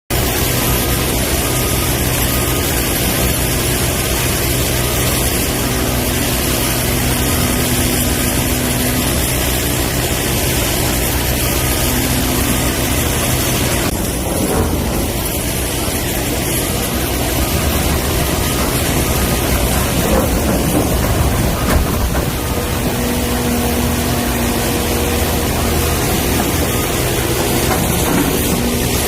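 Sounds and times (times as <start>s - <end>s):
excavator diesel engine running: 0.1s - 29.0s.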